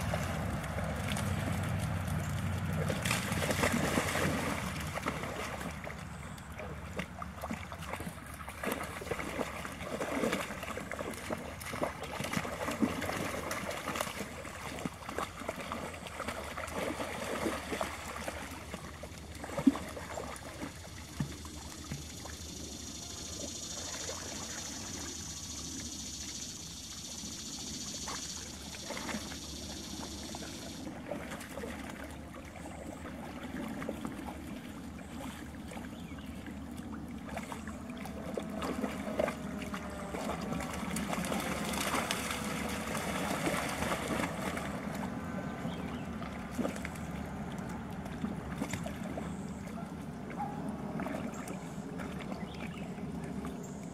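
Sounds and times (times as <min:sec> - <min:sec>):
dogs splashing through water: 0:00.0 - 0:53.9.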